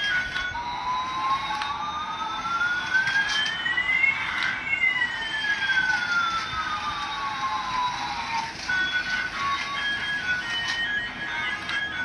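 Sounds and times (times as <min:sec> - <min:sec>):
gliding electronic siren tones: 0:00.0 - 0:12.0.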